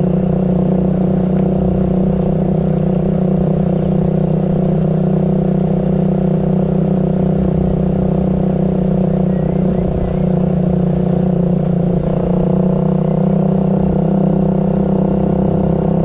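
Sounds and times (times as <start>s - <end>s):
steady engine drone: 0.0s - 16.0s.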